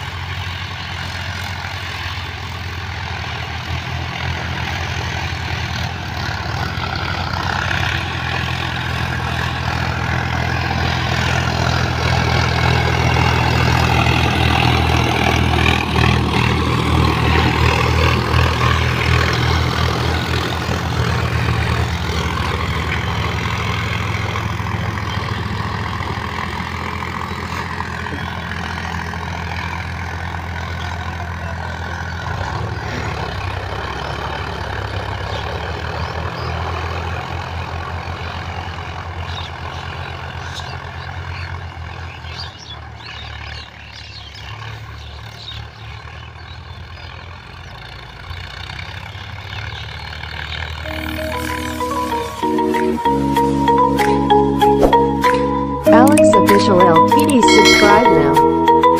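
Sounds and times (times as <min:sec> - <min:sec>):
distant tractor engine: 0:00.0 - 0:58.9
tractor diesel engine under load: 0:00.0 - 0:58.9.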